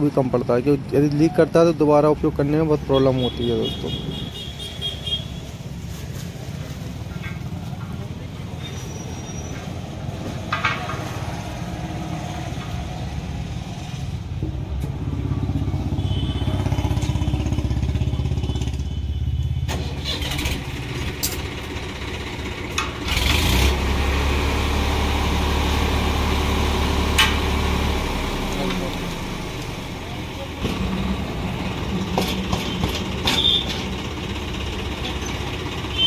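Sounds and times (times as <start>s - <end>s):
engine humming: 0.8s - 36.0s.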